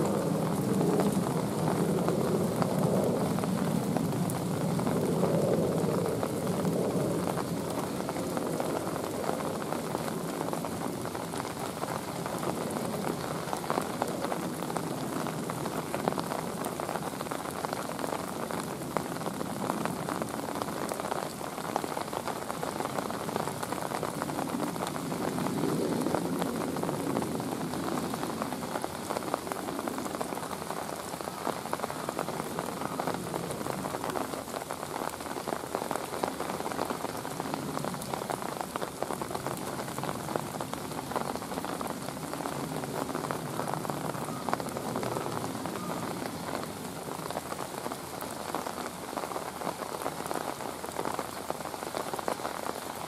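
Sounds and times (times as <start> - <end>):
rain on hard surfaces: 0.0 - 53.0.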